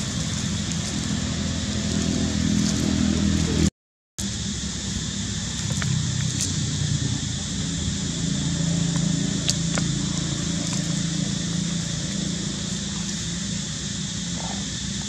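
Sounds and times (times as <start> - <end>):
high drone: 0.0 - 15.0
low outdoor rumble: 0.0 - 15.0.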